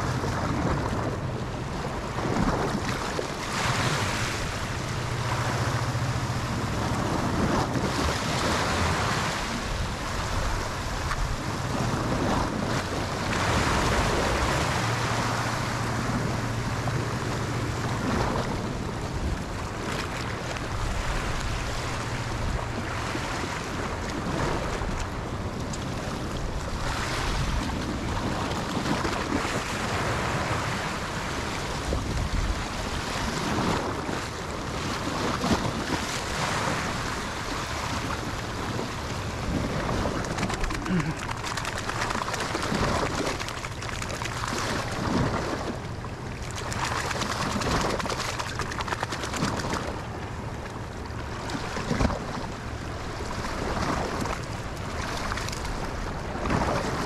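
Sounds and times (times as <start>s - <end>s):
sea waves washing: 0.0s - 57.0s
wind buffeting the microphone: 0.0s - 57.0s.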